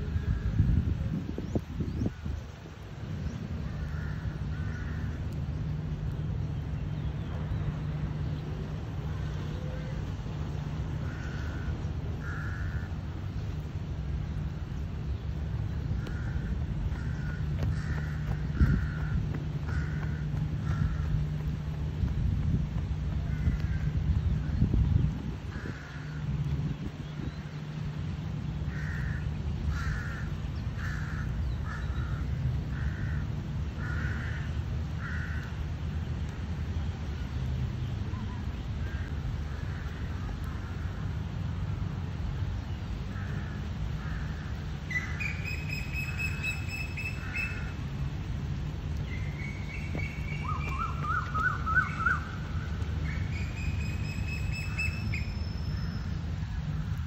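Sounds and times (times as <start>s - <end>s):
birds calling: 0.1s - 22.1s, 22.8s - 36.2s, 42.6s - 47.9s, 48.9s - 57.0s.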